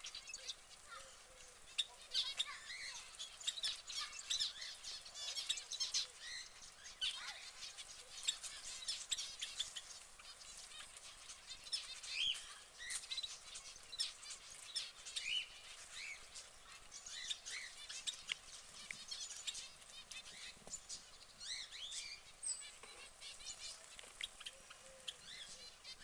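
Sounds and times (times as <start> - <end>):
canary chirping and trilling: 0.0 - 26.0.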